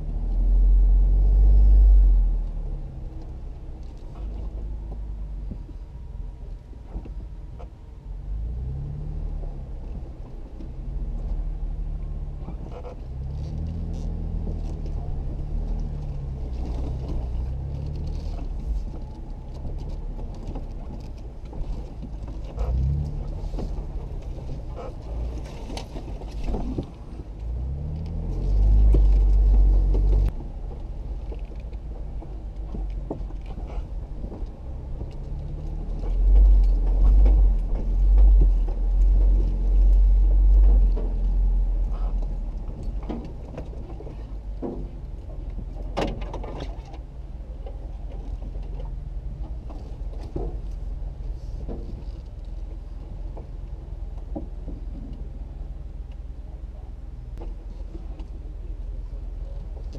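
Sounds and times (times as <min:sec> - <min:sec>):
car engine running: 0:00.0 - 0:59.9
heavy low rumbles: 0:00.0 - 0:59.9.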